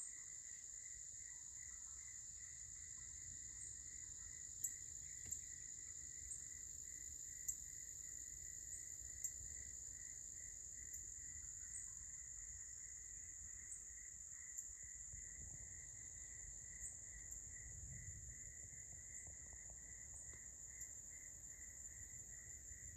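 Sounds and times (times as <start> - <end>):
night insects droning: 0.0 - 22.9
pulsing insect trill: 0.1 - 22.9.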